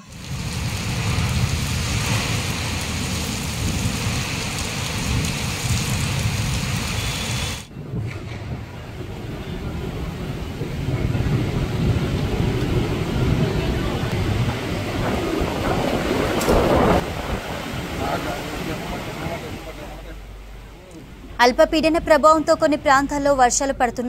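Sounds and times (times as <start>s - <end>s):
heavy rain hitting a car: 0.0s - 20.6s.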